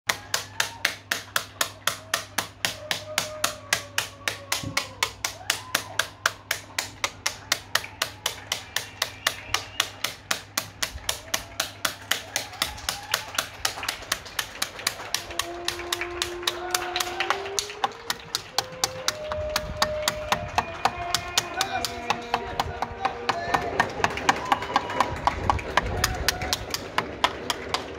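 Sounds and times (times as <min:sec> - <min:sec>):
rhythmic clapping: 0:00.1 - 0:27.9.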